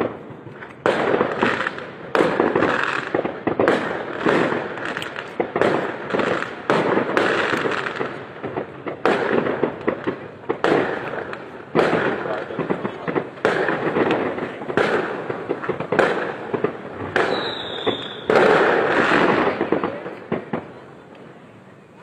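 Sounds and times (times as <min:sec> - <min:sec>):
fireworks banging: 0:00.0 - 0:22.0.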